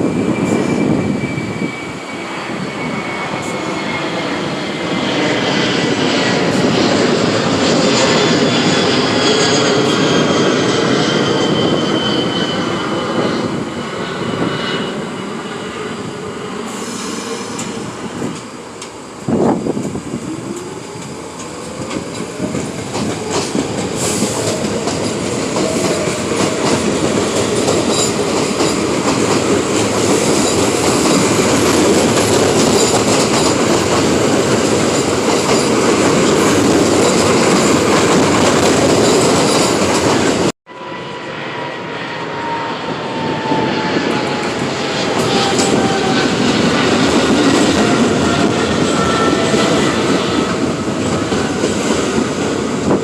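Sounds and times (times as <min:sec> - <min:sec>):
subway train wheels clattering: 0:00.0 - 0:53.0.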